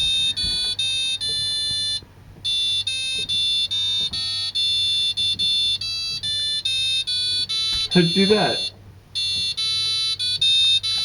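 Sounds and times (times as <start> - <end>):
washing machine beeping a melody: 0.0 - 11.0.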